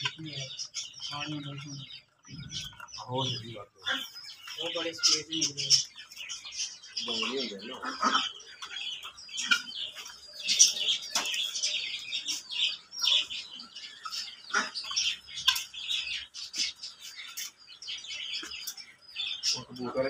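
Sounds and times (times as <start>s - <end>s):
bird squawks: 0.0s - 20.0s
birds chirping: 0.0s - 20.0s.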